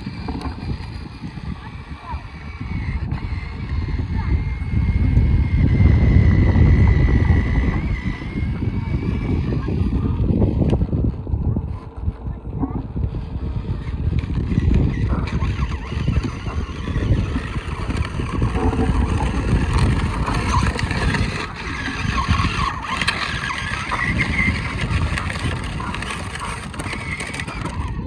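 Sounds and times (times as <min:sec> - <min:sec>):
toy motorcycle rolling on pavement: 0:00.0 - 0:28.0.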